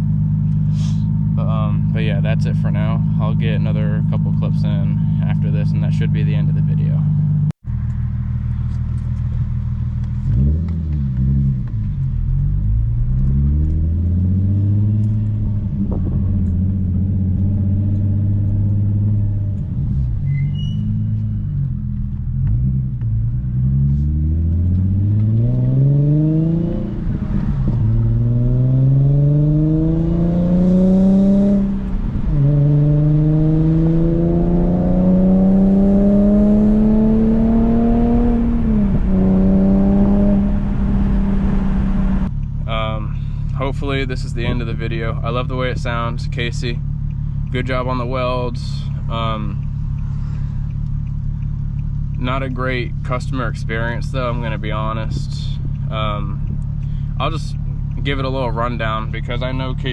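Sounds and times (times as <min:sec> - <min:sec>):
car engine revving through gears: 0:10.0 - 0:42.4, 0:43.2 - 0:59.9.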